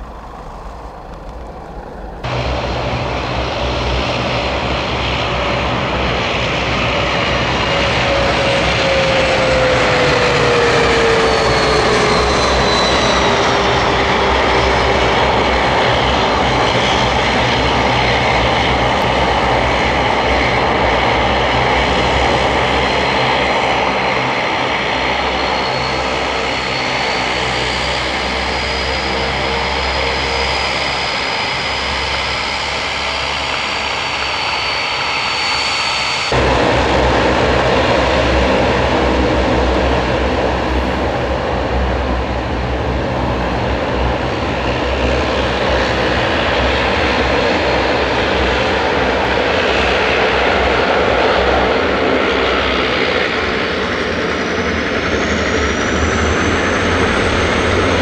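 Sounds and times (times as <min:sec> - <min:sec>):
high turbine whine: 0:00.0 - 0:58.0
jet engines rumbling: 0:00.0 - 0:58.0.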